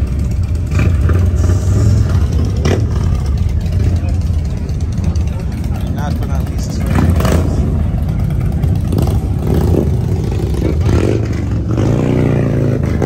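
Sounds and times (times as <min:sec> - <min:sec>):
car engine rumbling and revving: 0:00.0 - 0:13.0.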